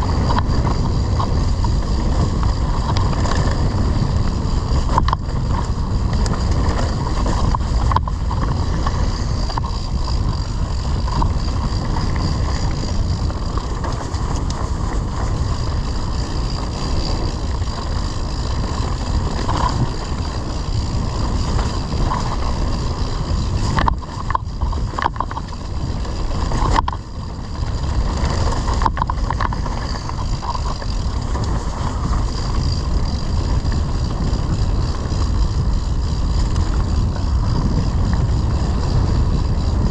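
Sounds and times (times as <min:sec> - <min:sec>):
bike rattling over rough ground: 0:00.0 - 0:39.9
wind rushing over microphone: 0:00.0 - 0:39.9.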